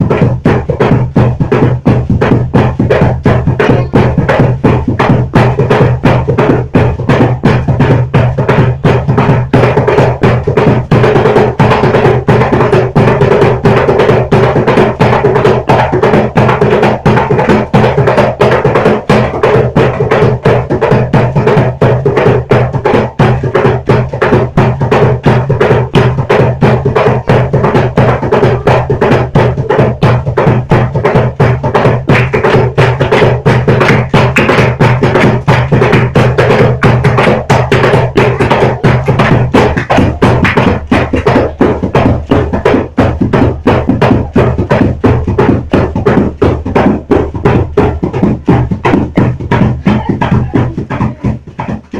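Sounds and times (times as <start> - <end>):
fast drum beat: 0.0 - 51.9.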